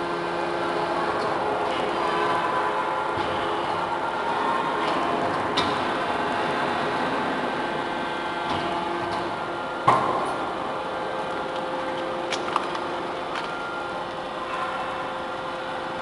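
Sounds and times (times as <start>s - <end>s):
hydraulic pump hum: 0.0s - 16.0s.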